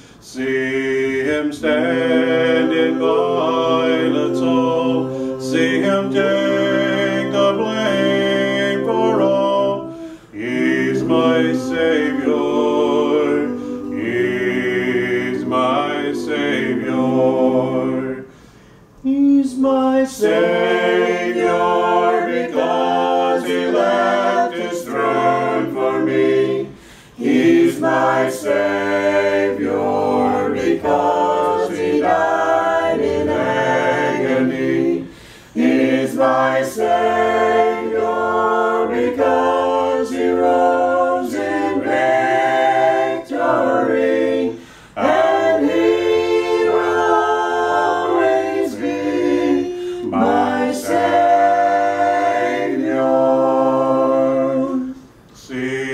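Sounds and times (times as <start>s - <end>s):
choir singing a cappella: 0.0s - 55.9s.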